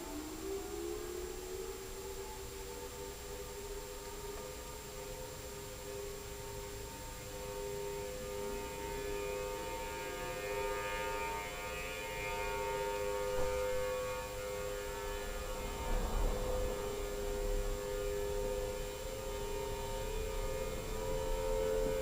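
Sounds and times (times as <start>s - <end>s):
two-note warning sirens: 0.0s - 22.0s.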